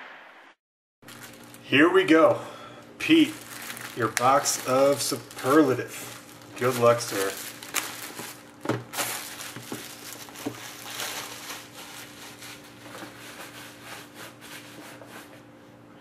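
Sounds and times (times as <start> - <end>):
faint steady hum: 1.1 - 16.0.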